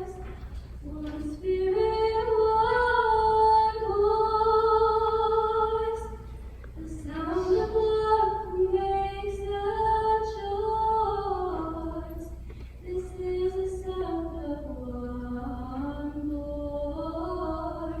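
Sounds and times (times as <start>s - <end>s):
woman singing: 0.0s - 6.2s, 6.8s - 18.0s.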